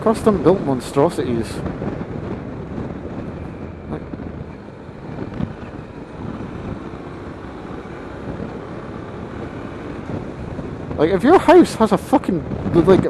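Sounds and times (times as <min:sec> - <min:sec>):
wind rushing over microphone: 0:00.0 - 0:13.0
motorcycle engine running: 0:01.6 - 0:12.8.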